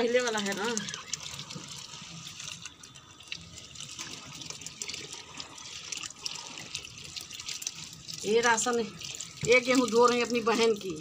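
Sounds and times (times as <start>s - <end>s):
water running from hose: 0.0s - 11.0s
water splashing: 0.0s - 11.0s.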